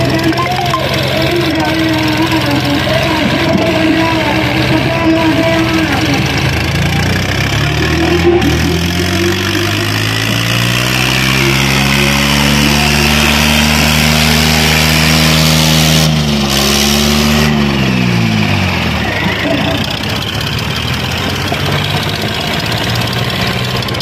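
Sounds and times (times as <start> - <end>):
tractor engines labouring: 0.0 - 24.0.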